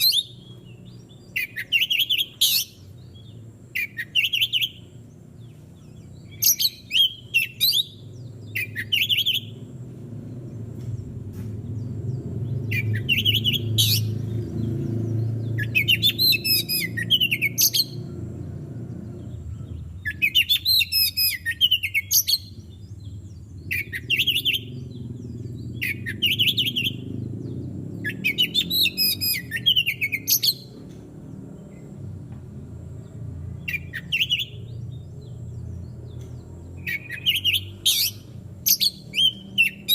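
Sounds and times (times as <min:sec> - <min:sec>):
songbird whistling and warbling: 0:00.0 - 0:09.7, 0:12.5 - 0:14.4, 0:15.2 - 0:18.1, 0:19.3 - 0:30.9, 0:33.6 - 0:39.9
low background rumble: 0:04.7 - 0:39.9.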